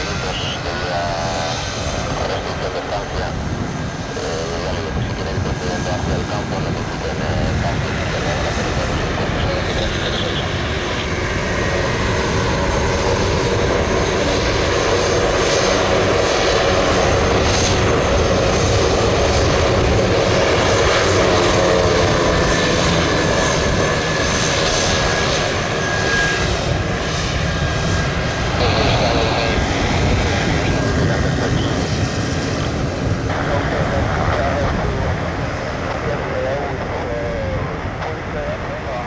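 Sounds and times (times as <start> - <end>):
propeller noise: 0.0 - 39.0
turbine whine: 0.0 - 39.0.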